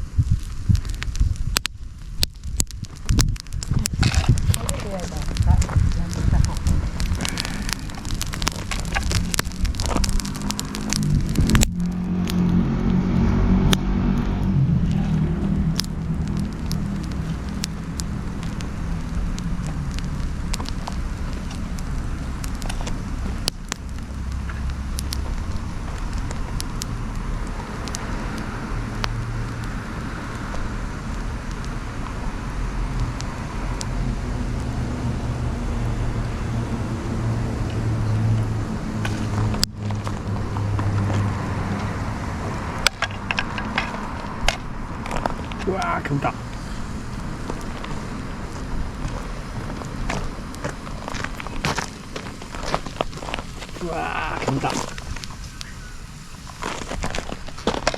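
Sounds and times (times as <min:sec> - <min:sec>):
bonfire crackling and popping: 0:00.0 - 0:57.9
fire low rumble: 0:00.0 - 0:57.9.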